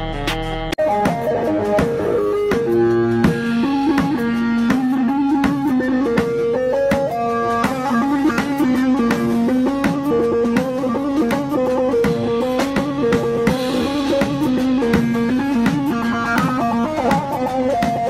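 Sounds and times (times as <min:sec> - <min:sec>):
light percussion: 0:00.0 - 0:18.0
plucked guitar melody: 0:00.0 - 0:18.0.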